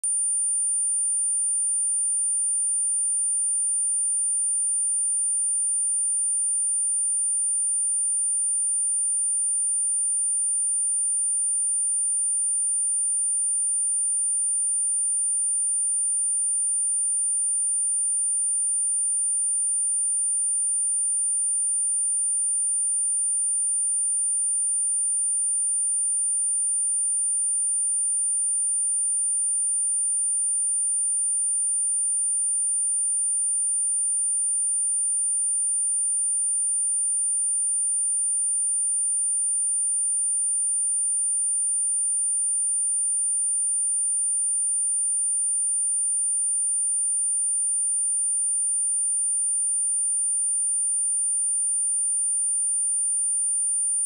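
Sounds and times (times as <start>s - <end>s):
high-pitched sine test tone: 0.0s - 54.0s.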